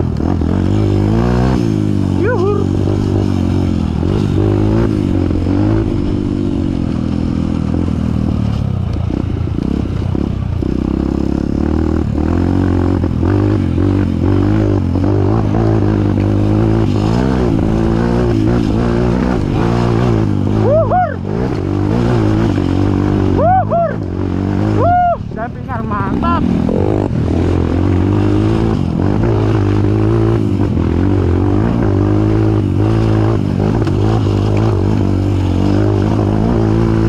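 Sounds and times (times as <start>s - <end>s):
motorcycle engine revving: 0.0s - 37.0s
motorcycle rattling over bumps: 0.0s - 37.0s.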